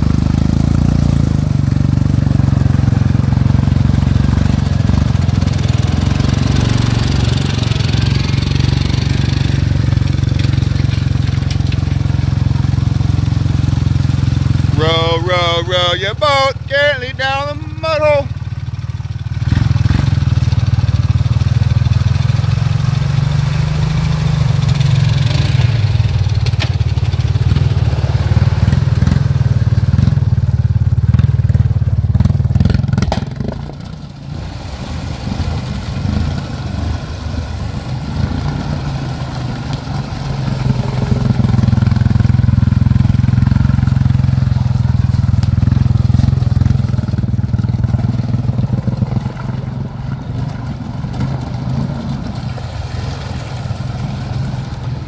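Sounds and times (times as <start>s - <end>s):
quad bike engine under load: 0.0s - 34.4s, 35.4s - 55.0s.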